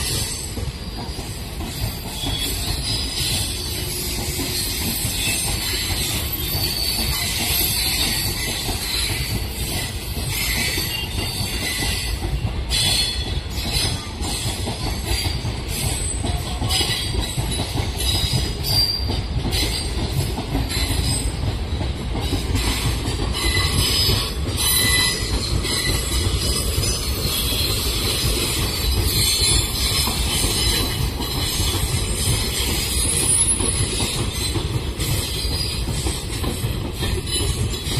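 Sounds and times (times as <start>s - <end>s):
wheel squeal: 0.0s - 14.1s, 15.0s - 20.0s, 22.6s - 36.2s
train wheels rumbling on rail: 0.0s - 37.9s.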